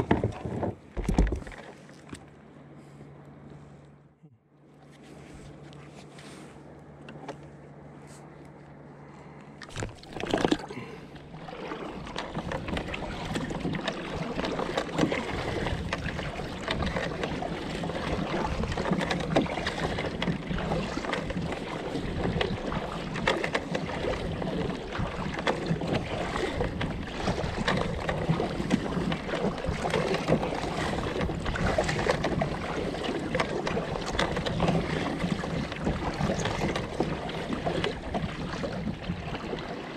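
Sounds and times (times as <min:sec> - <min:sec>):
paddle splashing in water: 0:00.0 - 0:02.9, 0:09.6 - 0:39.9.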